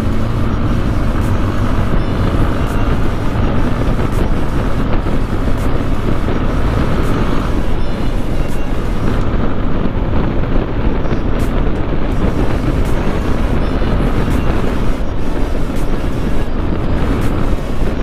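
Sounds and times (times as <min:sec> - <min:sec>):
motorcycle engine: 0:00.0 - 0:18.0
road noise: 0:00.0 - 0:18.0
wind on microphone: 0:00.0 - 0:18.0.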